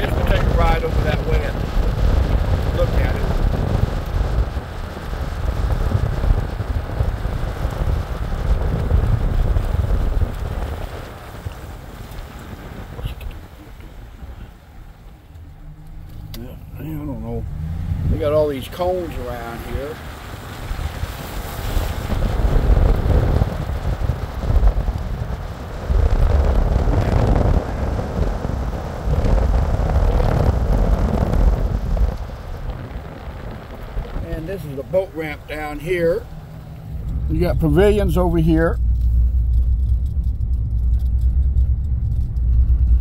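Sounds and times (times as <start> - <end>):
low rumble of moving vehicle: 0.0 - 43.0
wind buffeting microphone: 0.0 - 43.0.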